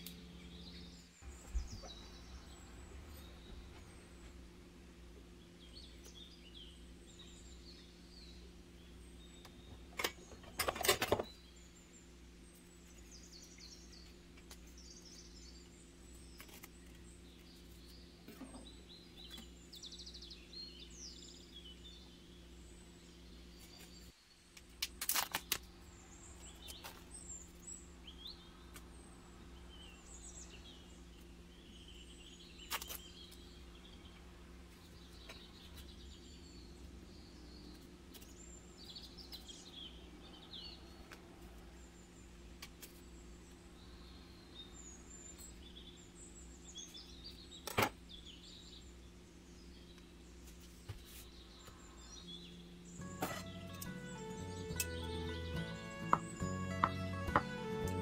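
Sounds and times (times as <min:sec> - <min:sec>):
faint birds chirping: 0:00.0 - 0:58.0
steady low hum: 0:00.0 - 0:58.0.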